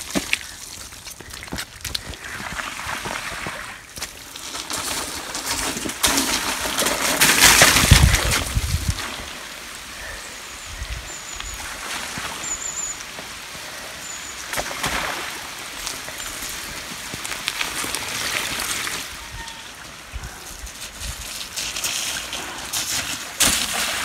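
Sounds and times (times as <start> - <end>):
bike tyres rolling through mud: 0.0 - 24.0
tyres splashing through puddles: 0.0 - 24.0.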